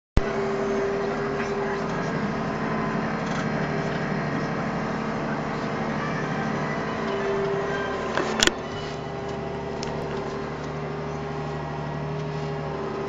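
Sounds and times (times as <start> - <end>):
tractor diesel engine running: 0.2 - 13.0.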